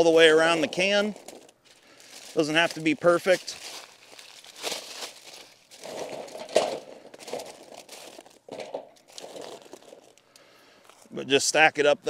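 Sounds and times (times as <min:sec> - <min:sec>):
foil crinkling: 0:00.0 - 0:10.5
charcoal briquettes clattering: 0:00.0 - 0:10.6.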